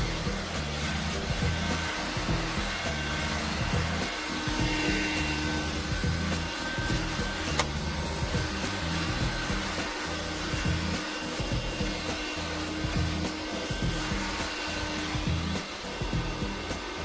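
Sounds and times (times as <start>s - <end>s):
background music: 0.0s - 17.0s
handheld vacuum cleaner running: 0.0s - 17.0s.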